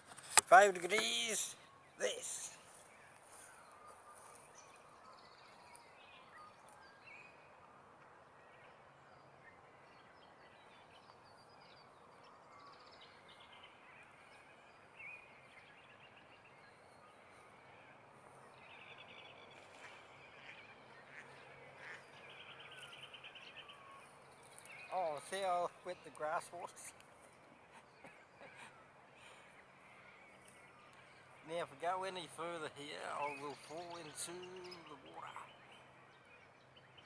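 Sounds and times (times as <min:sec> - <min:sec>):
faint birdsong: 0:00.0 - 0:37.0.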